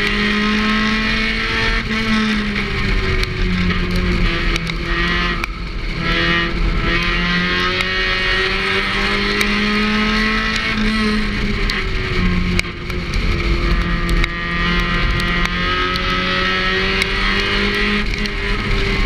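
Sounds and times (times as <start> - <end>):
race car engine running hard: 0.0 - 19.0.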